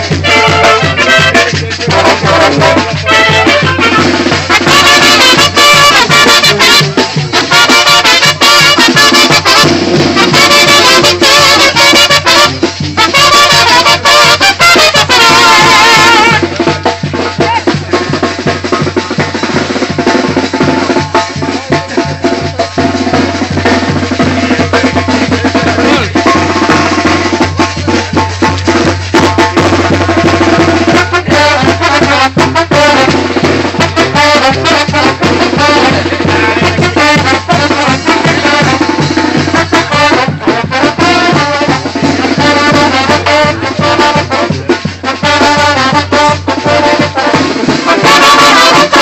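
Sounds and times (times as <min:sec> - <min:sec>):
sousaphone: 0:00.0 - 0:18.2, 0:24.2 - 0:45.6
brass band marching: 0:00.0 - 0:49.0
drums keeping a steady beat: 0:00.0 - 0:49.0
trumpets: 0:00.0 - 0:49.0.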